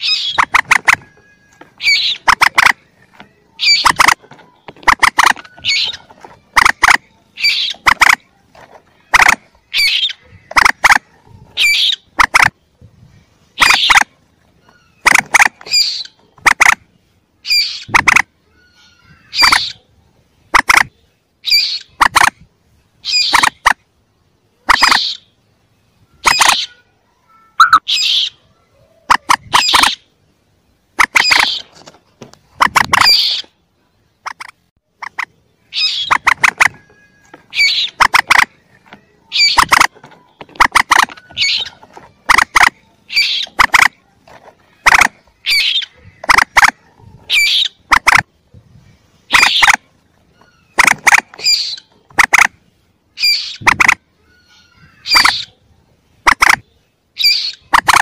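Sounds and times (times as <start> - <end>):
young moorhen calls: 0.0 - 8.3, 9.0 - 12.6, 13.5 - 19.9, 20.5 - 22.4, 23.0 - 23.8, 24.6 - 25.4, 26.0 - 30.2, 31.0 - 31.7, 32.6 - 33.6, 34.2 - 48.2, 49.2 - 52.5, 53.1 - 55.6, 56.3 - 58.0.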